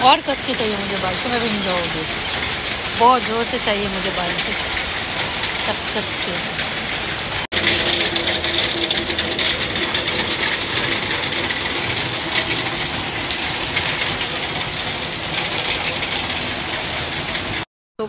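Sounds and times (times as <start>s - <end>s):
heavy rain on pavement: 0.0s - 17.7s.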